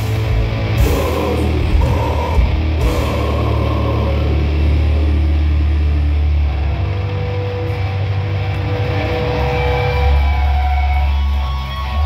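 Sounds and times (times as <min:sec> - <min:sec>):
metal band playing: 0:00.0 - 0:12.0.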